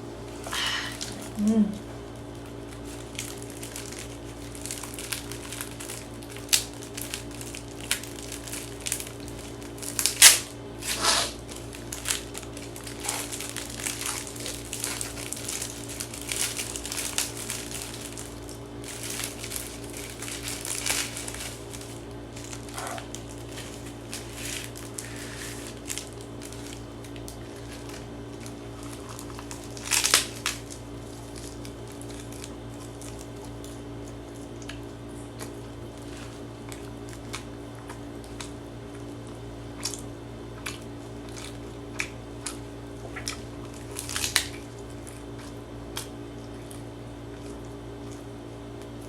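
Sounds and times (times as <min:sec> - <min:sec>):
plastic wrapping crinkling: 0:00.2 - 0:37.4, 0:41.2 - 0:47.8.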